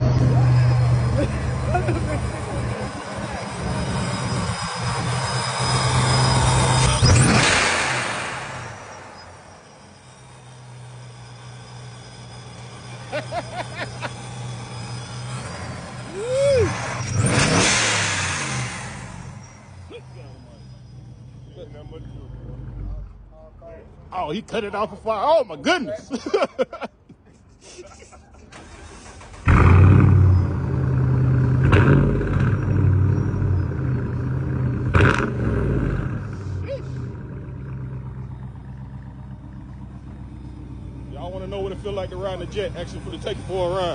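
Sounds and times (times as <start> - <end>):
car engine idling: 0.0 - 7.1, 7.8 - 25.4, 28.3 - 43.9
engine revving: 0.0 - 23.3, 28.6 - 43.9.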